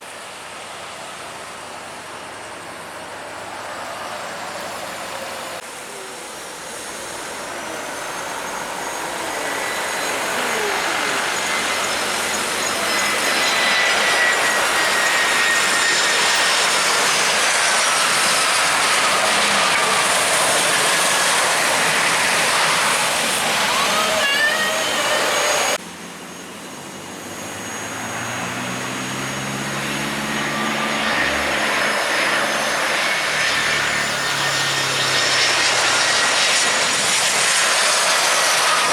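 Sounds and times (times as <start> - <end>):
jet engines passing: 0.0 - 38.9.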